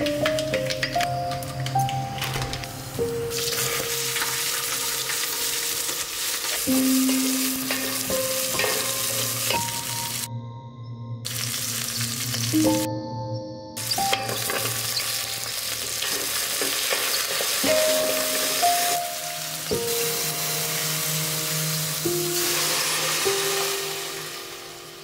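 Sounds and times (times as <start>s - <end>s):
spices and onions sizzling in oil: 0.0s - 10.3s, 11.3s - 12.9s, 13.8s - 25.0s
soft background music: 0.0s - 25.0s.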